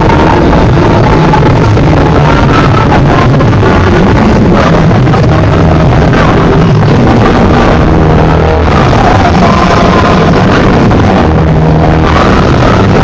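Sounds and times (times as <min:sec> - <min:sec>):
distorted loud bass-heavy music: 0:00.0 - 0:13.0.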